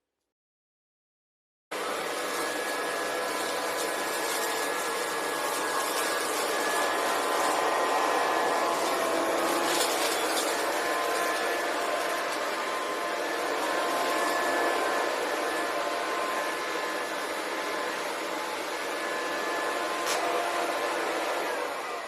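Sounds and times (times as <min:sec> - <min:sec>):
vacuum cleaner running: 0:01.7 - 0:22.0.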